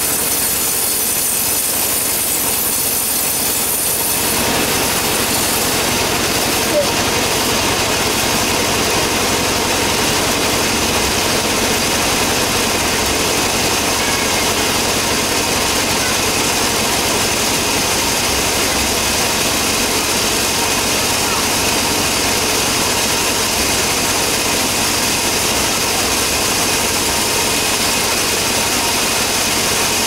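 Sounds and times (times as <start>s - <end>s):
sawmill engine and saw running: 0.0s - 30.0s.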